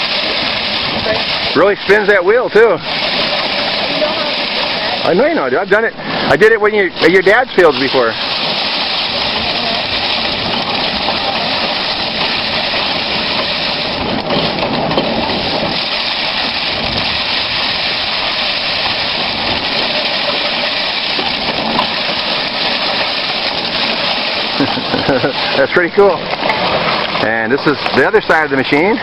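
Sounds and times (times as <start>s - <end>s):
rice thresher drum whirring: 0.0s - 29.0s.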